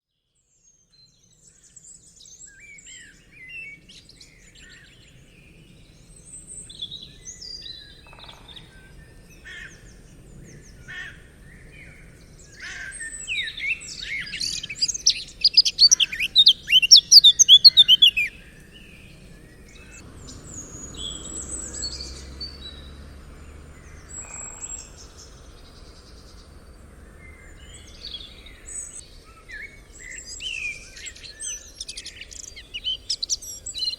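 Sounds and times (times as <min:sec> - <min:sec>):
songbirds chirping and whistling: 0:00.7 - 0:33.9
loud bird song falling notes: 0:00.8 - 0:33.9.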